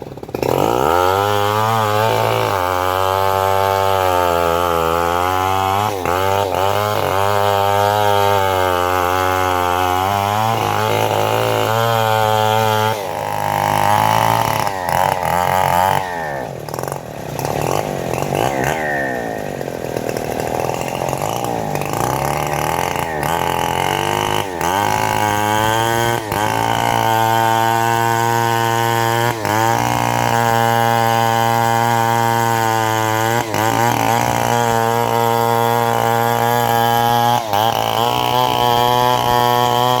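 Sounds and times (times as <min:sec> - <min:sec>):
engine-driven saw cutting wood: 0:00.0 - 0:40.0.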